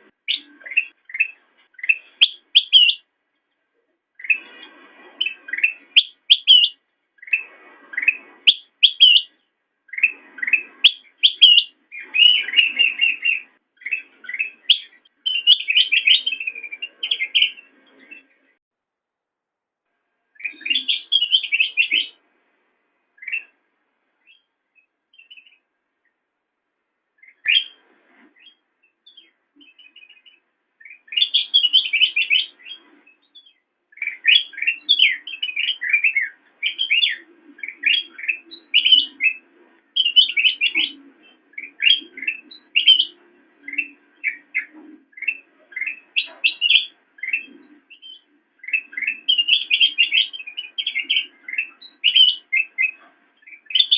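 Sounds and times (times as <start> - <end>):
bulbul singing: 0.0 - 3.6, 4.2 - 18.6, 20.3 - 22.2, 23.2 - 23.6, 27.2 - 53.9.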